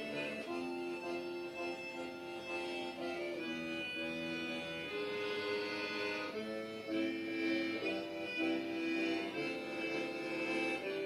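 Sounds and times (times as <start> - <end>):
slow melody of long held notes: 0.0 - 11.0.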